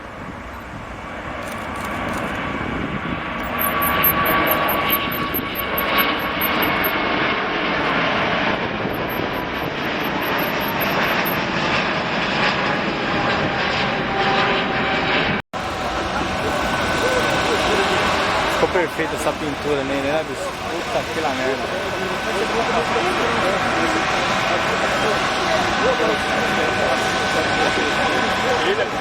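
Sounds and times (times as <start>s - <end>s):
engine whine: 0.0s - 29.0s
jet engines roaring: 0.0s - 29.0s.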